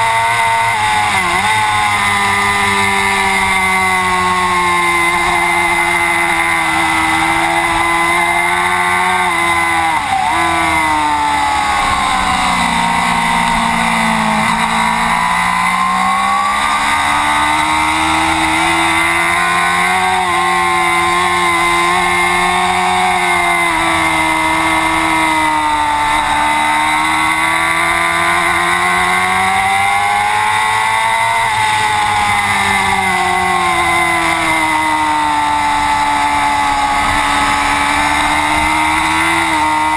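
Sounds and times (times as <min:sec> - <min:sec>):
race motorcycle engine revving: 0:00.0 - 0:39.9.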